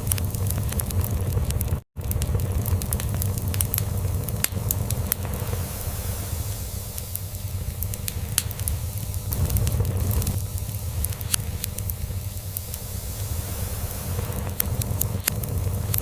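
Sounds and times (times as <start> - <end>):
log fire crackling: 0.0 - 16.0.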